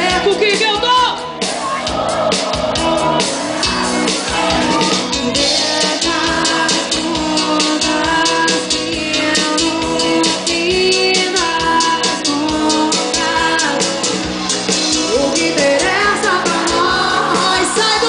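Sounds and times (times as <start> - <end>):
drum kit beat: 0.0 - 18.0
live band music: 0.0 - 18.0.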